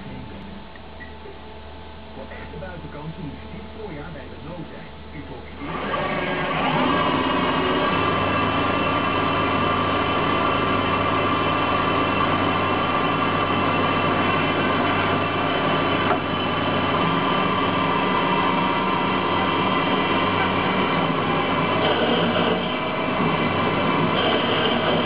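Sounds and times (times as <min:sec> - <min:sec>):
lathe whine: 0:00.0 - 0:25.0.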